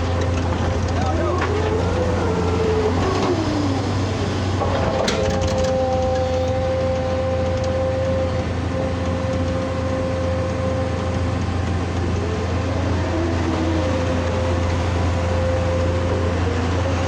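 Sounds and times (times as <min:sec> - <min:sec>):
excavator engine rumble: 0:00.0 - 0:17.0
steady whine: 0:00.0 - 0:17.0.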